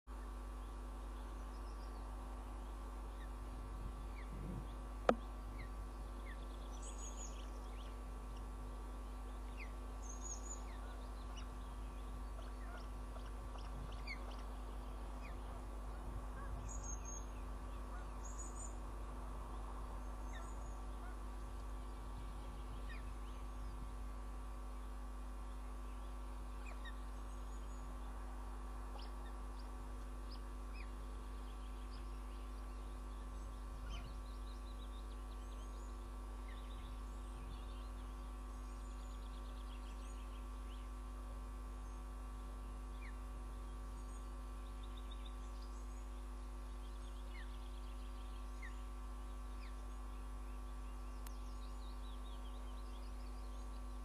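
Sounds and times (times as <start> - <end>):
electrical hum: 0.1 - 54.0.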